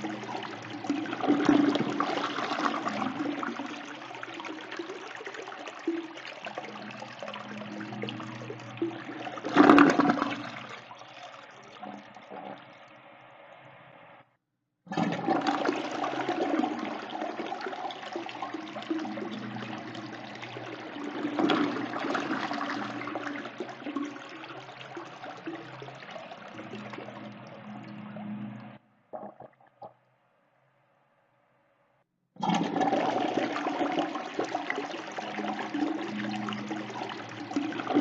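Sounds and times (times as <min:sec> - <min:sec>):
toilet flushing: 0:00.0 - 0:13.1, 0:14.9 - 0:29.4, 0:32.4 - 0:38.0.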